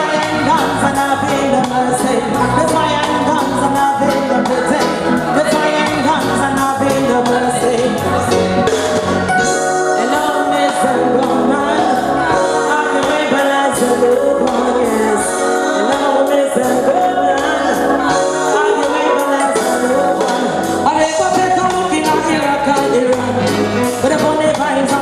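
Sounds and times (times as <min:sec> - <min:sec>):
person singing: 0:00.0 - 0:25.0
reggae backing track: 0:00.0 - 0:25.0.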